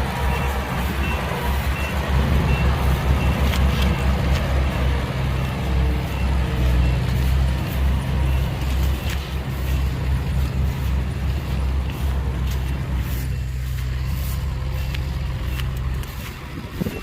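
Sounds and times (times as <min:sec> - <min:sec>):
heavy diesel engine running: 0:00.0 - 0:17.0
faint reversing beeps: 0:00.1 - 0:11.4, 0:13.0 - 0:17.0.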